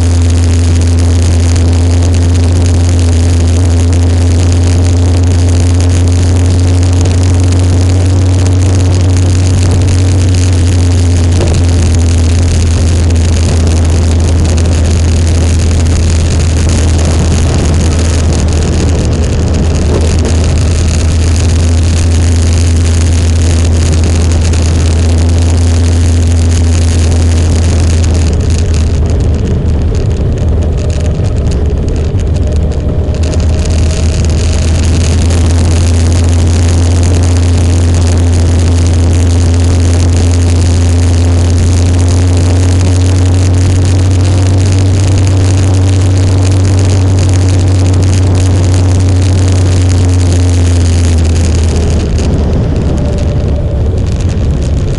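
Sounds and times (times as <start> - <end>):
motorcycle engine rumbling: 0.0 - 54.9.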